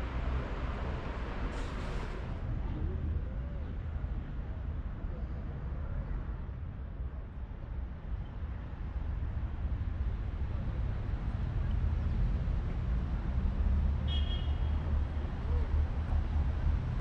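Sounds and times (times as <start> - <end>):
low rumble of traffic or wind: 0.0 - 17.0.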